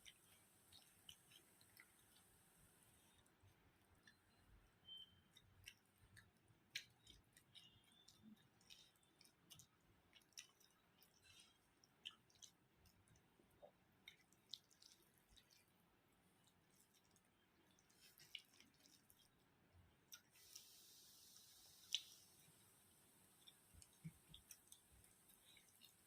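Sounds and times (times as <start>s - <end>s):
faint chewing with wet clicks: 0.0s - 26.0s.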